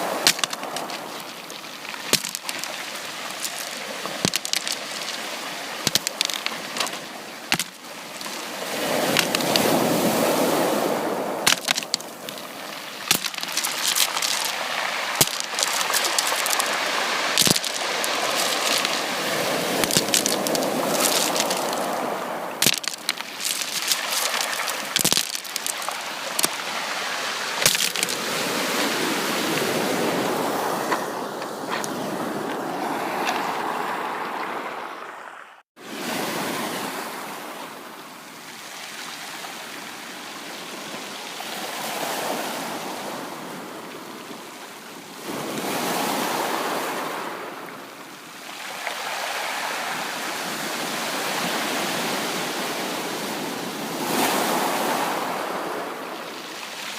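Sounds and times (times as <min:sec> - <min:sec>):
sea waves washing in: 0:00.0 - 0:37.9, 0:45.2 - 0:56.9.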